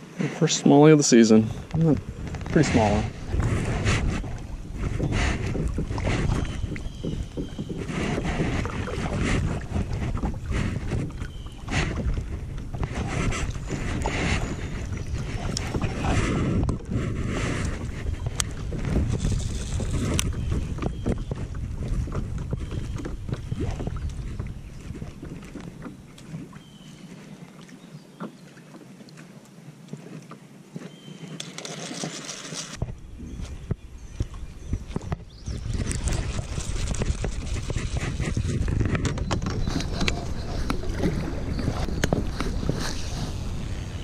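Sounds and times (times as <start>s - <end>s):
water around a kayak: 0.0s - 44.0s
wind buffeting microphone: 1.3s - 27.3s, 32.8s - 44.0s.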